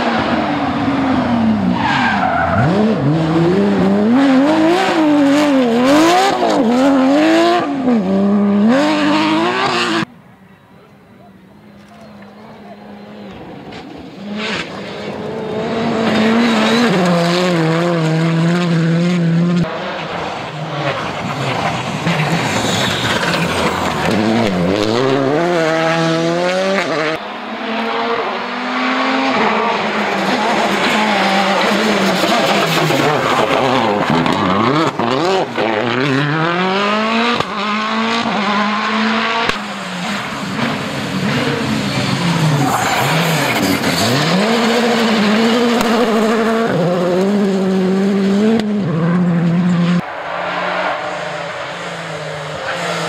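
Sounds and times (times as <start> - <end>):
rally car engines revving: 0.0 - 10.1, 11.2 - 53.0.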